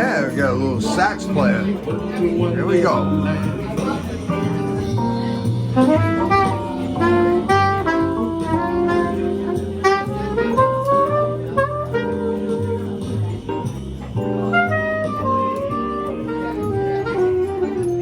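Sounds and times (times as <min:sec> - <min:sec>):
saxophone melody: 0:00.0 - 0:18.0.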